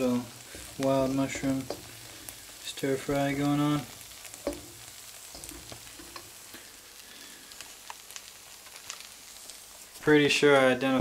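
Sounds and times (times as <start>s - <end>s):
mushrooms sizzling in a wok: 0.0s - 11.0s.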